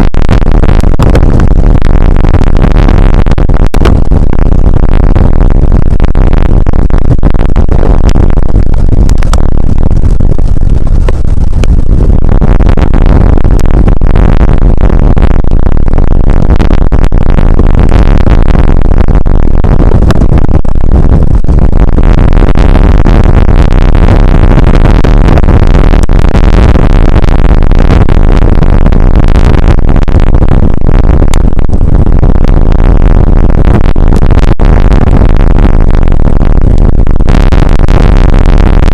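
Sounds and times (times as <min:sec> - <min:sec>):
distorted rain and wind roar: 0:00.0 - 0:38.9.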